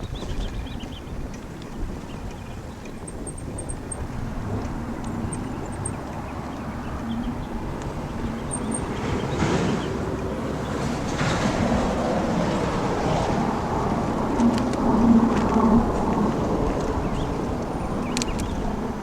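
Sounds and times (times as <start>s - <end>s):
low engine rumble: 0.0s - 19.0s
vehicles passing: 1.3s - 19.0s.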